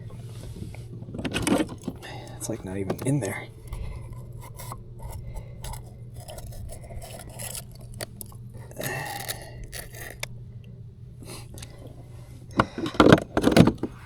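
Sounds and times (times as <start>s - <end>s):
steady low hum: 0.0s - 14.0s
fishing gear scraping and clicking: 0.3s - 10.3s, 12.6s - 14.0s.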